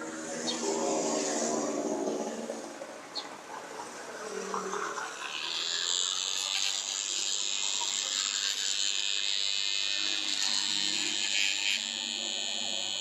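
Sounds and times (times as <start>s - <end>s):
electric fan motor whirring: 0.0s - 13.0s.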